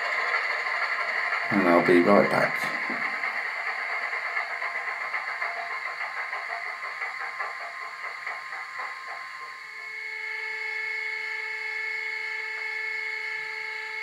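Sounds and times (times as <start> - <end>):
model locomotive diesel engine sound: 0.0 - 14.0.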